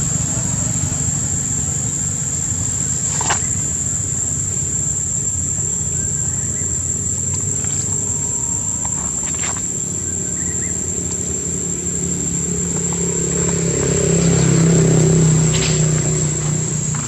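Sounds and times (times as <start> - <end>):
high-pitched insect drone: 0.0 - 17.0
passing traffic engine rumble: 0.0 - 17.0.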